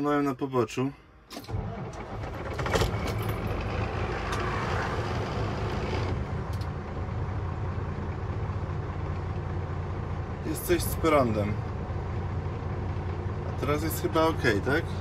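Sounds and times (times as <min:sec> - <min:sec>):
diesel truck engine starting and idling: 0:00.1 - 0:15.0.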